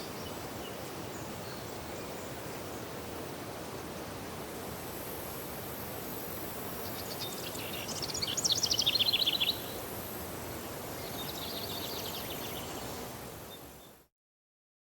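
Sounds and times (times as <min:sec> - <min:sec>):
steady outdoor hiss: 0:00.0 - 0:14.1.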